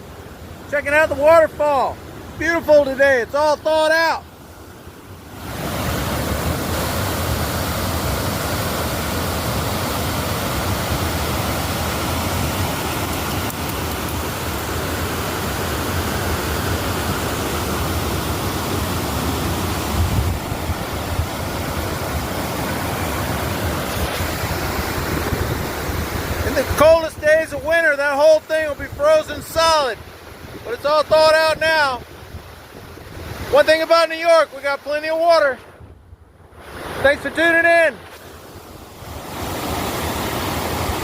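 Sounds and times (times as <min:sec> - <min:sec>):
waterfall rushing: 0:00.1 - 0:35.6, 0:36.6 - 0:41.0.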